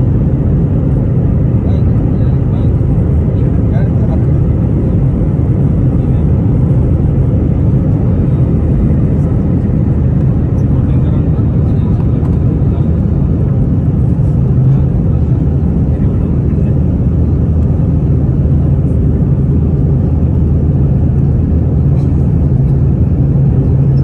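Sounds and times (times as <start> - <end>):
jet engine rumble in cabin: 0.0 - 24.0
steady low hum: 0.0 - 24.0.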